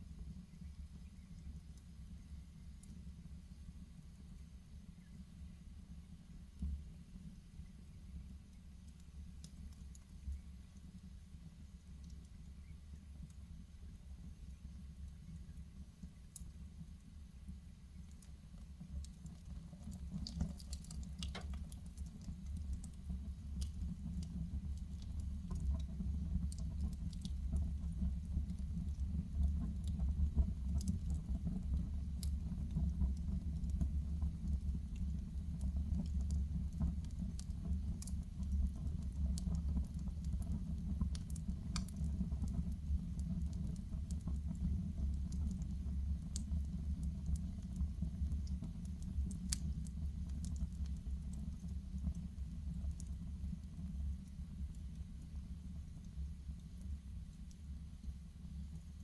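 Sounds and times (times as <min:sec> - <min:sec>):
wood fire crackling and popping: 0:08.2 - 0:59.0.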